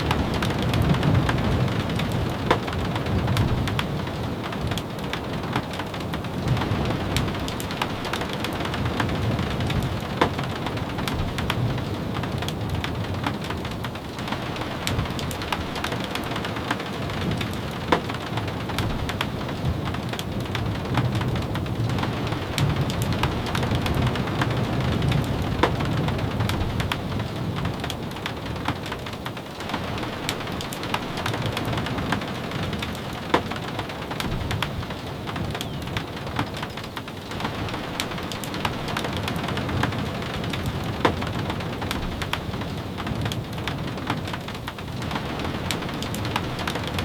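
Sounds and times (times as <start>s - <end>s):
rain on a wooden cabin: 0.0s - 47.0s.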